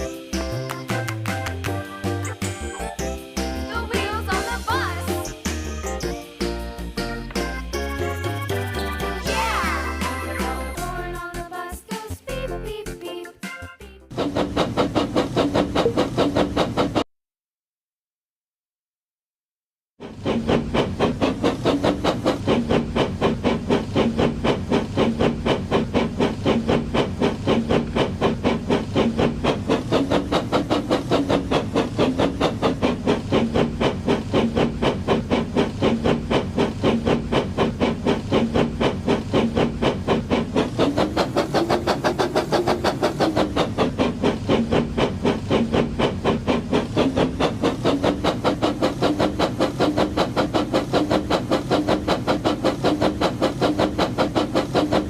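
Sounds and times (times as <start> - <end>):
toy train engine chugging: 0.0 - 17.1, 20.0 - 55.0.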